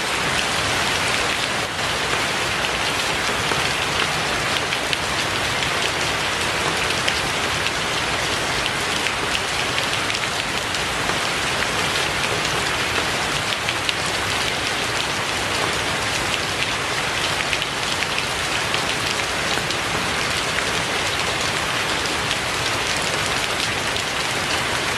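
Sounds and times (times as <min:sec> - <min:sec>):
steady rain hiss: 0:00.0 - 0:24.9
raindrops ticking on a surface: 0:00.2 - 0:24.9.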